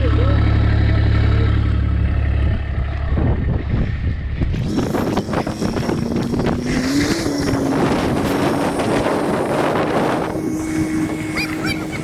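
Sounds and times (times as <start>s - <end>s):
utility vehicle engine running: 0.0s - 12.0s
wind buffeting microphone: 2.3s - 12.0s.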